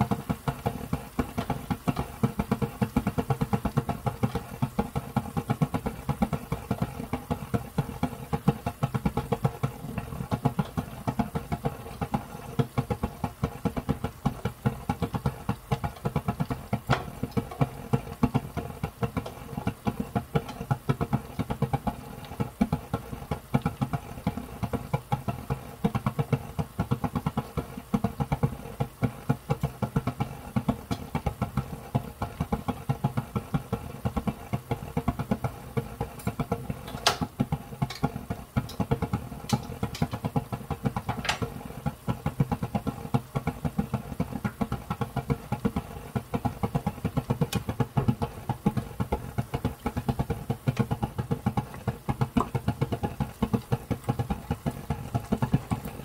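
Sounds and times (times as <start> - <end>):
sauce bubbling in a frying pan: 0.0 - 56.0.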